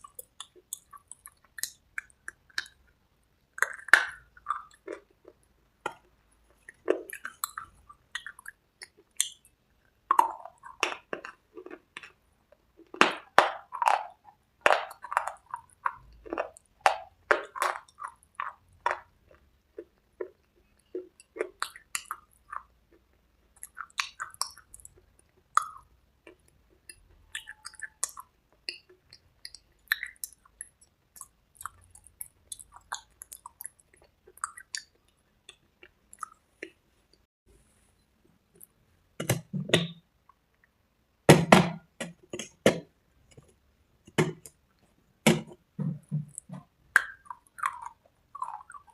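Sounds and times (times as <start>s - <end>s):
chewing crunchy food: 0.0s - 37.3s, 45.9s - 48.9s.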